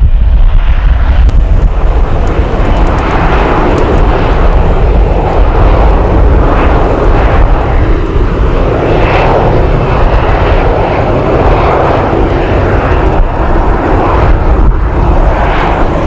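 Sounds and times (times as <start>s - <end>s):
jet engines running loud: 0.0s - 16.0s.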